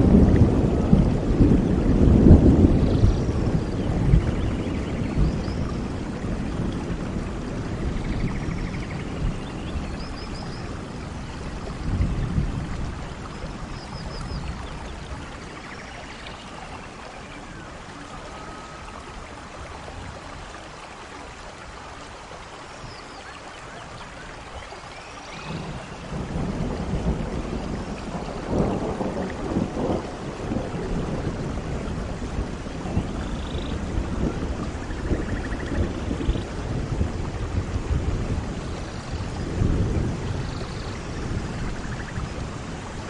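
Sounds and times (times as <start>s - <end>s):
thunder rumbling: 0.0s - 20.2s, 25.3s - 43.0s
steady rain: 0.0s - 43.0s.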